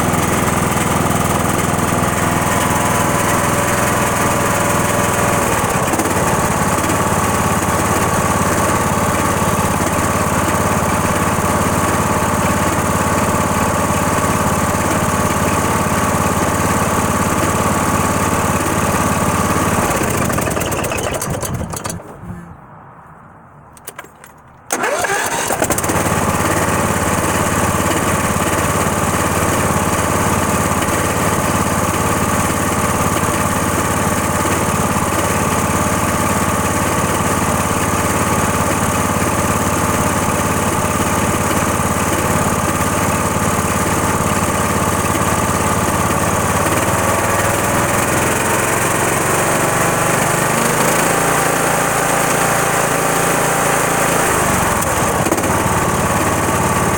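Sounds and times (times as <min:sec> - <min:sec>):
small engine running: 0:00.0 - 0:22.2, 0:24.7 - 0:56.9.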